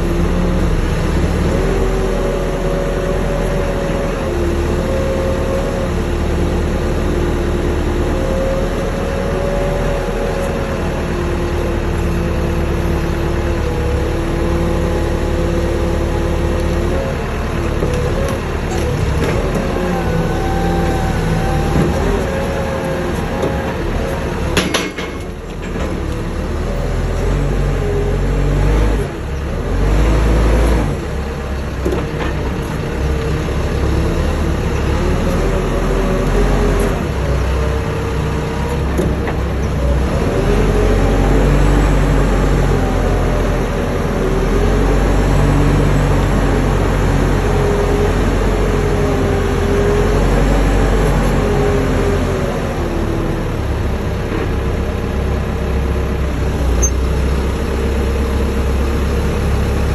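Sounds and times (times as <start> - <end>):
lift truck engine rumbling: 0.0 - 59.9.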